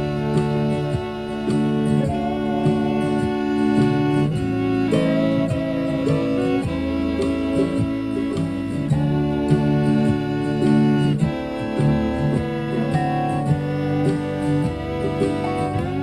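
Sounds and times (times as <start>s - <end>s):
country backing track: 0.0s - 16.0s
fiddle bowed double stops: 0.0s - 16.0s
strummed acoustic guitar: 0.0s - 16.0s.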